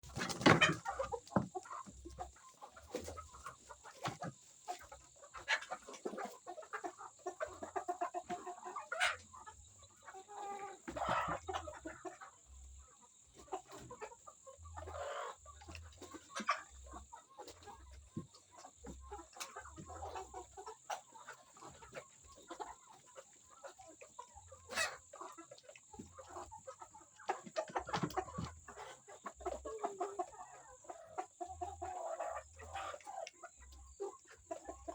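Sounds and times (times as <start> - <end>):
chickens clucking and calling: 0.0 - 34.9.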